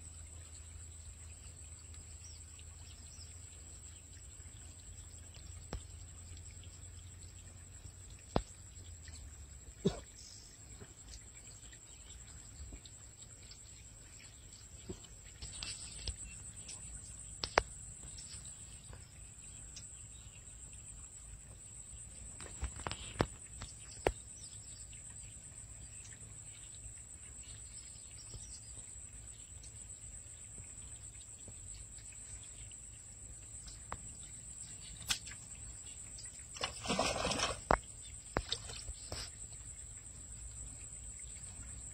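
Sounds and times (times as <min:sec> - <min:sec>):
insect chorus: 0:00.0 - 0:41.9.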